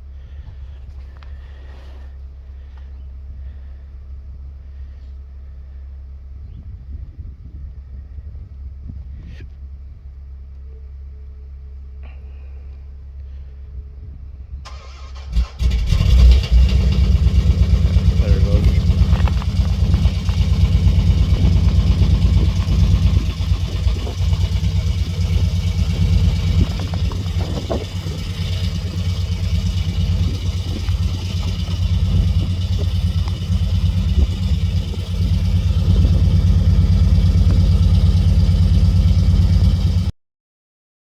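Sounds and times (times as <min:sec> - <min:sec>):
vehicle engine low pulsing: 0:00.0 - 0:40.1.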